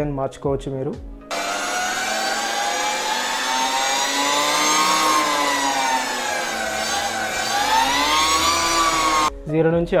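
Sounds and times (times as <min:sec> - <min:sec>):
electric motorcycle motor whine: 0:01.3 - 0:09.3.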